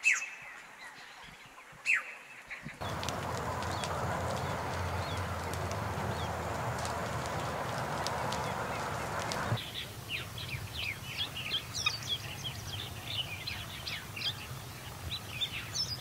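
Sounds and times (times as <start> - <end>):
small birds chirping: 1.9 - 16.0
brush fire rushing hiss: 2.8 - 16.0.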